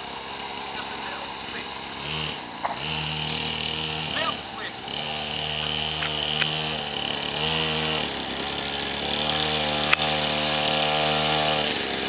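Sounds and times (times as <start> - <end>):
small motorcycle engine revving: 0.0 - 12.0.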